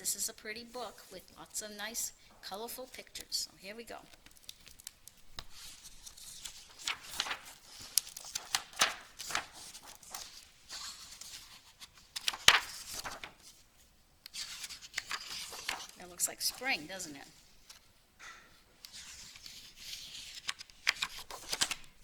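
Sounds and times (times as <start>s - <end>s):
paper pages rustling and turning: 0.6s - 18.0s, 18.7s - 22.0s.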